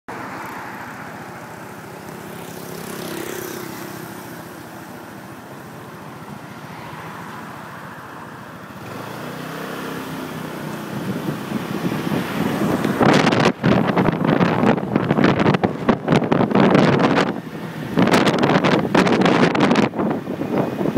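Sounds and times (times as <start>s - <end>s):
vehicle engine and road noise: 0.1s - 20.9s.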